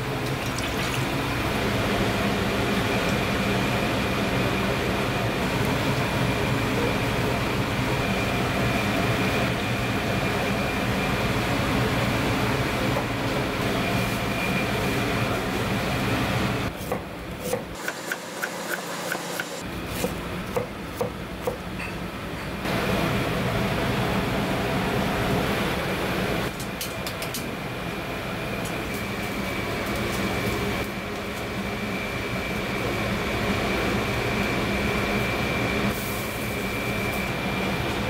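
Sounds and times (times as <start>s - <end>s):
mechanical kitchen hum: 0.0s - 38.0s.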